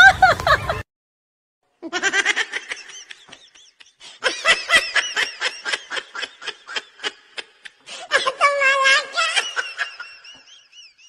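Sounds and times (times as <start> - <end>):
person laughing: 0.0 - 0.8, 1.8 - 11.0.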